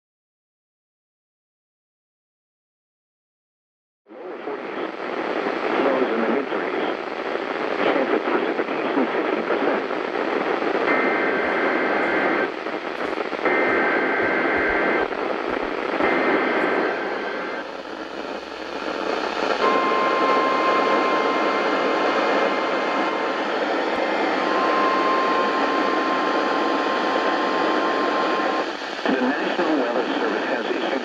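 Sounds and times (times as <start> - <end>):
radio static hiss: 4.1 - 31.0.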